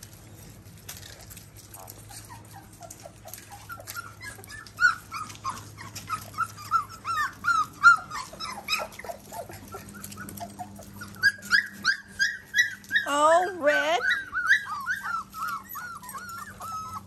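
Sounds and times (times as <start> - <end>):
puppies whimpering and yelping: 0.0 - 17.0.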